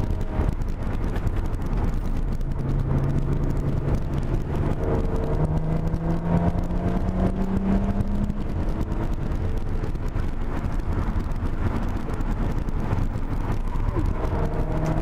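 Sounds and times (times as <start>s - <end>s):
car engine accelerating: 0.0s - 15.0s
road noise rumble: 0.0s - 15.0s.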